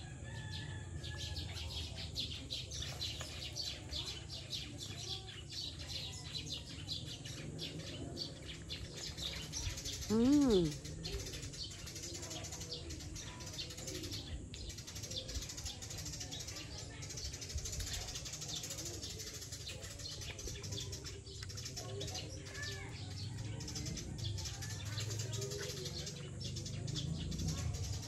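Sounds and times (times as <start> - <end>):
faint voices: 0.0 - 28.0
birds chirping: 0.3 - 15.2, 16.1 - 28.0.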